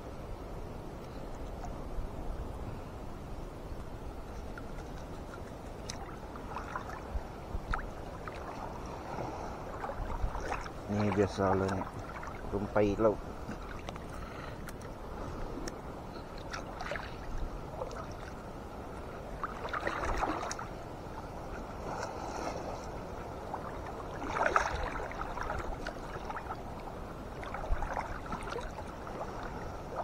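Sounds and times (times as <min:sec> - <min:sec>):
sea water sloshing and splashing: 0:04.2 - 0:30.0.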